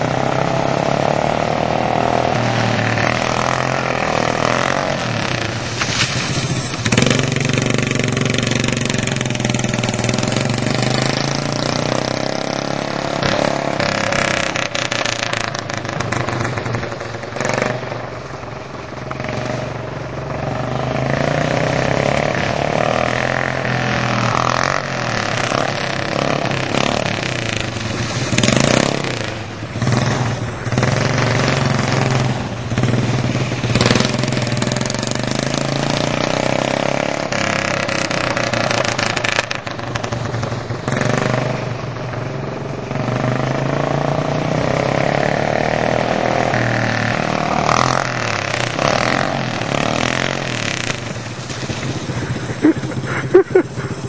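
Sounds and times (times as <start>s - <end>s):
rushing noise bursts: 0.0s - 20.3s, 20.9s - 54.0s
kart engine revving: 0.0s - 54.0s.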